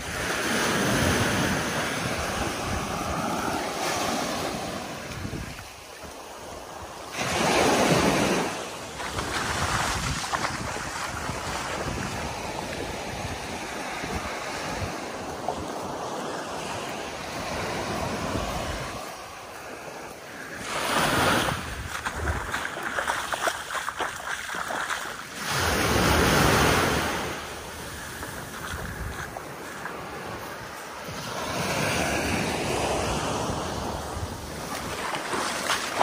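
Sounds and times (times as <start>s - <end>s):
small waves washing on sand: 0.0s - 36.0s
wind buffeting microphone: 0.0s - 36.0s.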